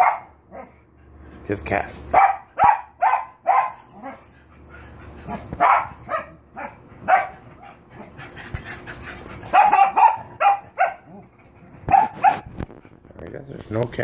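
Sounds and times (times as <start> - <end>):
dogs barking: 0.0 - 0.9, 2.0 - 12.6.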